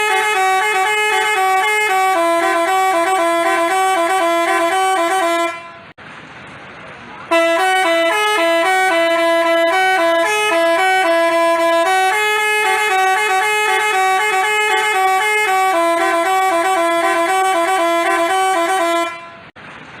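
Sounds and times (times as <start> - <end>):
musical bus horn playing tune: 0.0 - 6.0, 7.3 - 19.6.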